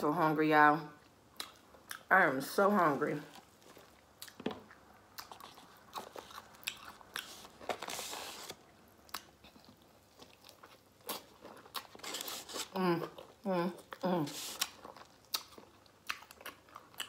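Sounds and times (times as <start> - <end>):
biting and chewing: 3.3 - 17.0.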